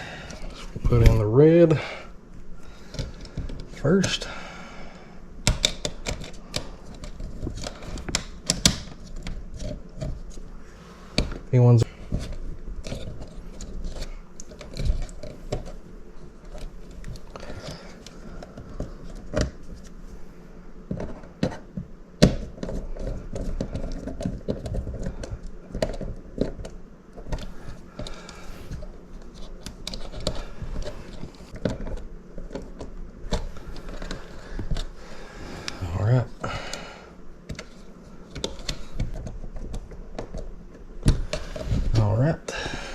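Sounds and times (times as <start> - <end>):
wires rustling: 0.0 - 21.8, 22.4 - 42.9.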